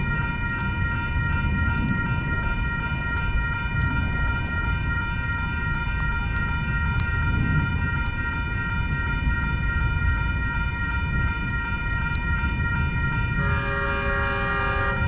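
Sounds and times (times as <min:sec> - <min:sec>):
faint ticks: 0:00.0 - 0:15.0
high-pitched whine: 0:00.0 - 0:15.0
wind rumbling on microphone: 0:00.0 - 0:15.0.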